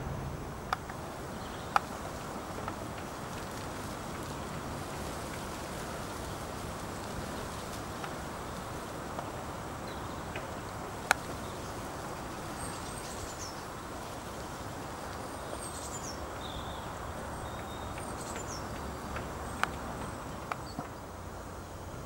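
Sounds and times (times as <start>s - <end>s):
wind noise: 0.0s - 22.0s.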